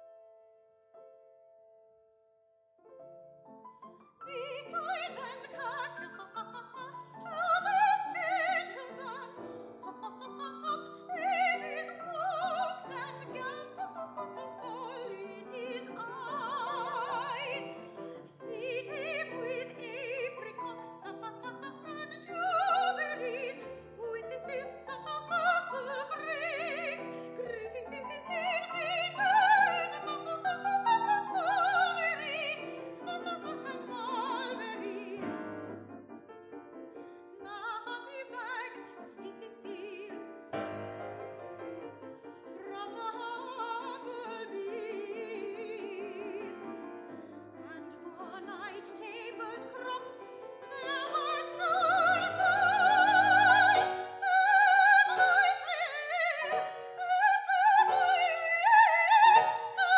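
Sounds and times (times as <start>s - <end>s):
piano accompaniment: 0.0s - 59.9s
soprano singing opera: 4.2s - 35.7s, 37.4s - 40.4s, 42.3s - 59.9s.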